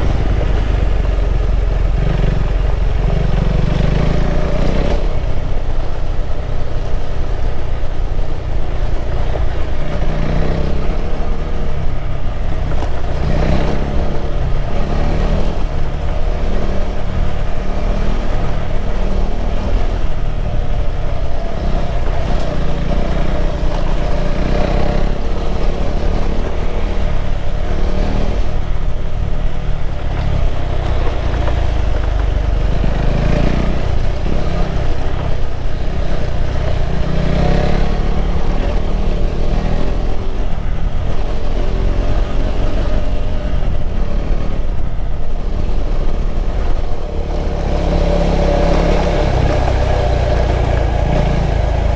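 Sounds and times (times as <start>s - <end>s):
motorcycle engine running: 0.0s - 51.9s
road noise: 0.0s - 51.9s.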